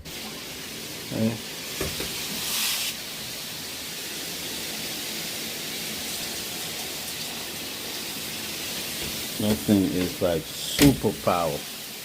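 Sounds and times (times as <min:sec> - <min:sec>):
shower head spraying water: 0:00.0 - 0:12.0.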